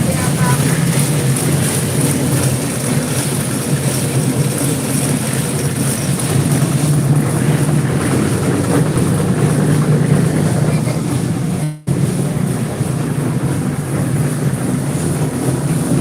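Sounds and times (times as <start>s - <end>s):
machine engine humming: 0.0s - 16.0s.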